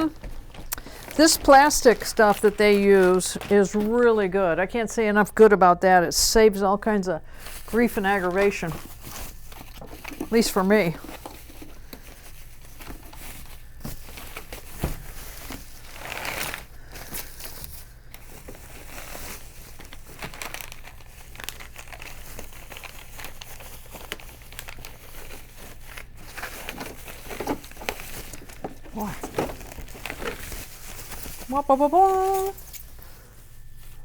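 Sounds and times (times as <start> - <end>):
plastic packaging crinkling: 0.0 - 4.8, 7.2 - 34.0.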